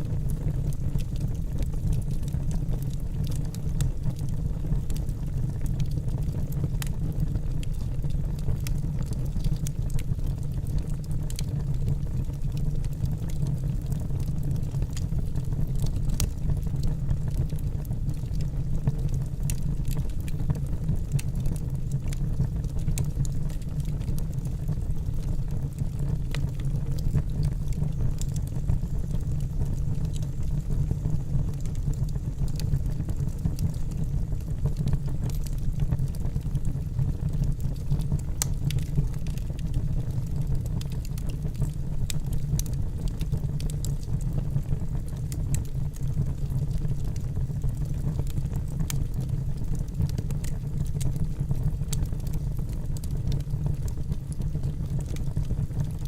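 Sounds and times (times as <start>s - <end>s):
fire rumbling: 0.0s - 56.0s
logs crackling and popping: 0.0s - 56.0s.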